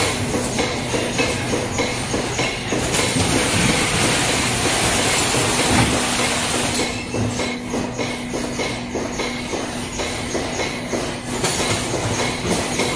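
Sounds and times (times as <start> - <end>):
machine clattering and humming: 0.0 - 12.9.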